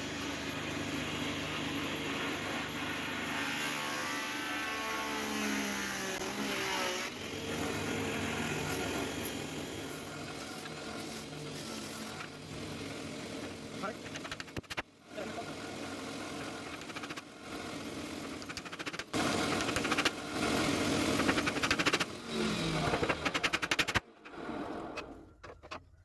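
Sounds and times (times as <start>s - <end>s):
motor running: 0.0s - 25.7s.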